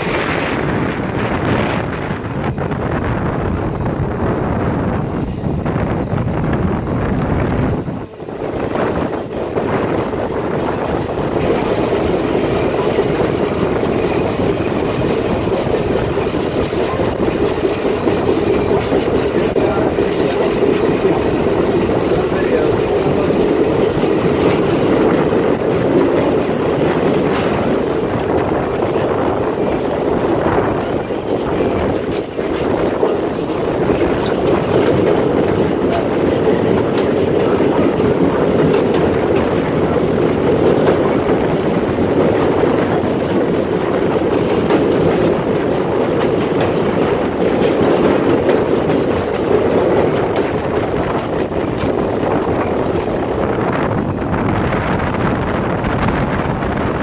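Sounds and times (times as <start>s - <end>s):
train wheels rumbling over bridge: 0.0s - 57.0s.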